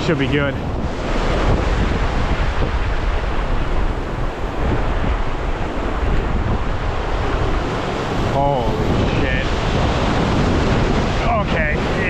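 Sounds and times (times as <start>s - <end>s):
heavy surf breaking: 0.0s - 12.0s
wind buffeting microphone: 0.0s - 12.0s.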